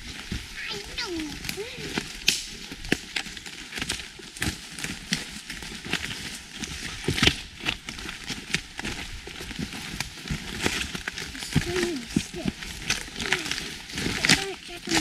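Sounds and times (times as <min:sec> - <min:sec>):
footsteps crunching through dry leaves: 0:00.0 - 0:15.0
twigs snapping underfoot: 0:01.0 - 0:15.0.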